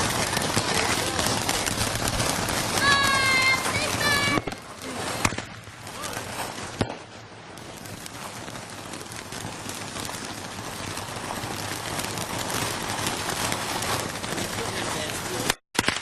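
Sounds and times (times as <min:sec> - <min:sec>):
firework bang: 0:00.0 - 0:16.0
firework crackling: 0:00.0 - 0:16.0.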